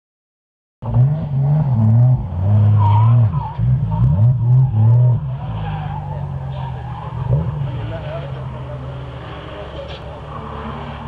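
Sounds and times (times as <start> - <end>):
car engine revving hard: 0.8 - 11.0
tyres skidding: 0.8 - 11.0.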